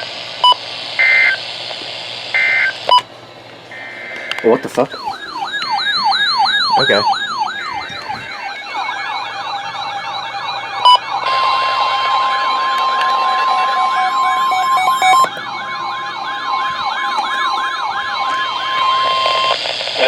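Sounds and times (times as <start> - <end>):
electronic sirens yelping: 0.0 - 1.4, 2.3 - 3.1, 3.7 - 20.0
steady warning alarm tone: 0.0 - 1.6, 2.3 - 20.0
data bursts: 3.8 - 20.0.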